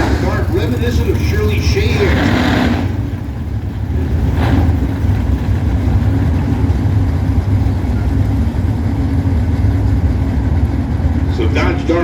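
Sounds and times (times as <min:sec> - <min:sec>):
race car engines idling: 0:00.0 - 0:12.0.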